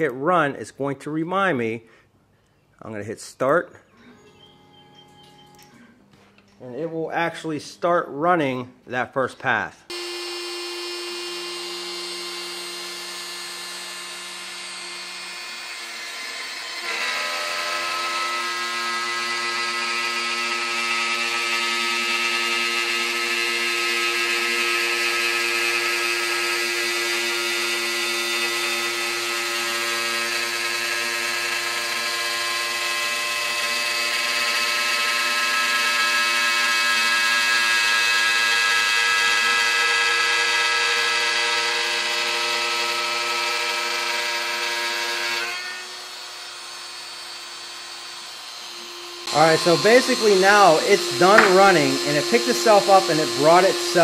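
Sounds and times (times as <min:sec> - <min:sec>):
router cutting wood: 0:09.9 - 0:54.0.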